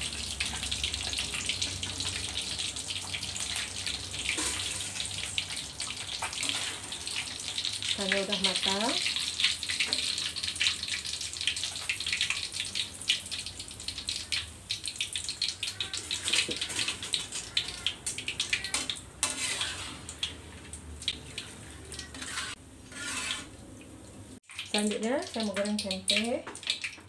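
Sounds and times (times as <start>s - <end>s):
oil crackling and sizzling: 0.0s - 27.0s.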